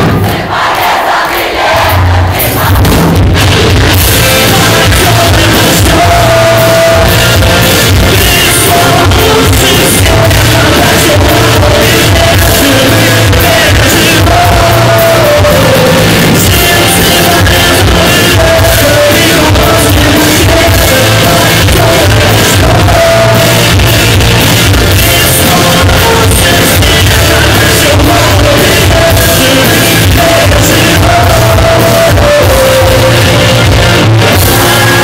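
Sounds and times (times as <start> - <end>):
rock band playing live: 0.0 - 35.0
person singing: 3.9 - 35.0.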